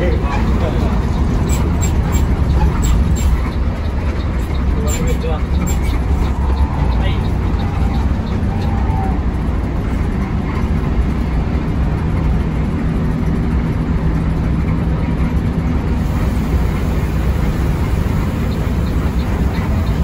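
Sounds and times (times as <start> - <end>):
bus engine running steadily: 0.0 - 20.0
road noise: 0.0 - 20.0.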